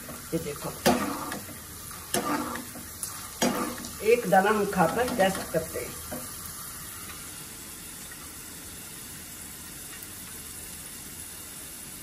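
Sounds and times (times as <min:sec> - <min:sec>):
corn sizzling in hot oil: 0:00.0 - 0:12.0.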